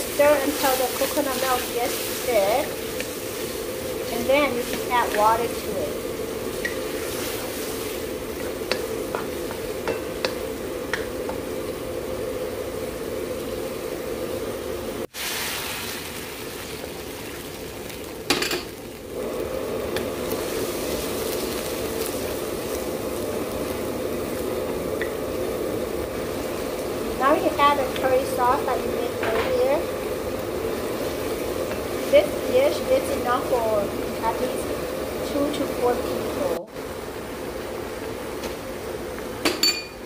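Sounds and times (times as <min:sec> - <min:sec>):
food sizzling and bubbling in pan: 0:00.0 - 0:40.0.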